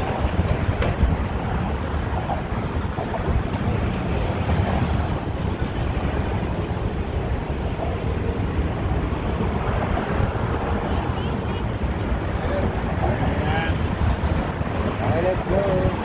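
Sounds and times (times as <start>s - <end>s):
car traffic rumble: 0.0s - 16.0s
wind buffeting microphone: 0.0s - 16.0s.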